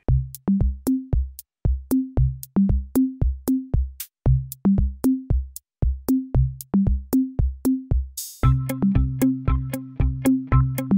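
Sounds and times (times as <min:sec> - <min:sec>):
drum machine beat with bass: 0:00.0 - 0:10.9.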